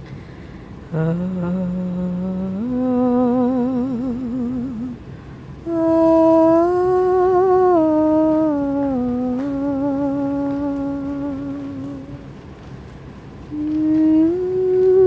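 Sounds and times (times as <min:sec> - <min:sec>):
person humming a slow melody: 0:00.8 - 0:12.3, 0:13.5 - 0:15.0.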